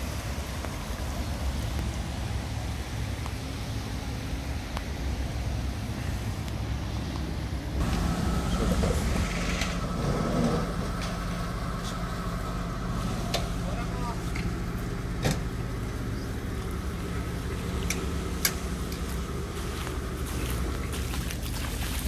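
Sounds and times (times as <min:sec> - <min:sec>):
fire engine motor humming: 0:00.0 - 0:22.0
floodwater rushing: 0:00.0 - 0:22.0.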